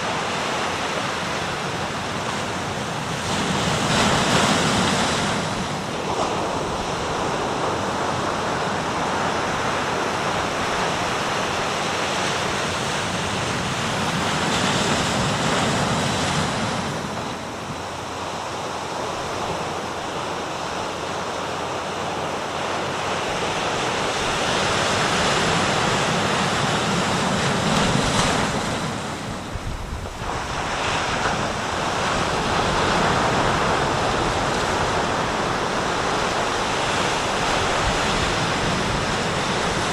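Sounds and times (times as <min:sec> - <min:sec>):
sea waves breaking on shore: 0:00.0 - 0:39.9
wind buffeting microphone: 0:00.0 - 0:39.9.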